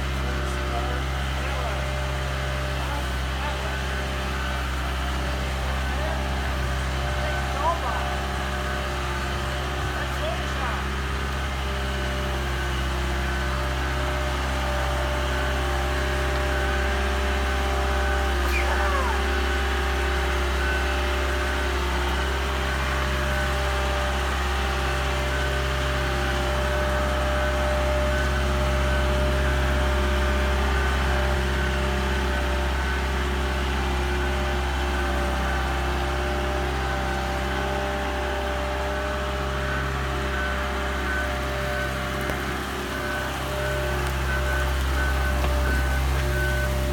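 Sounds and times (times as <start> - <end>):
boat hoist engine humming: 0.0 - 46.9.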